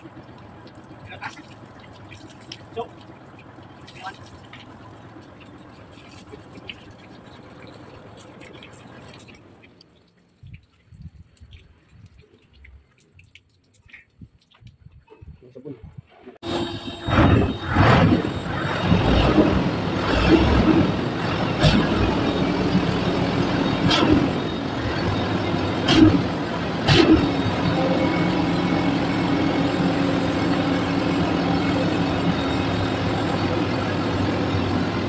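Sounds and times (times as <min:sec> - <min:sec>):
diesel engine idling: 0:00.0 - 0:09.5, 0:16.4 - 0:35.0.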